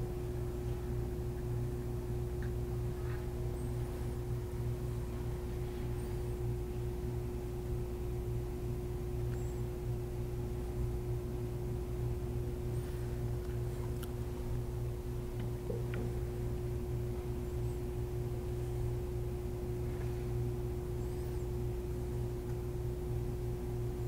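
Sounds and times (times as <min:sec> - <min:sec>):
electrical hum with steady tone: 0:00.0 - 0:24.0.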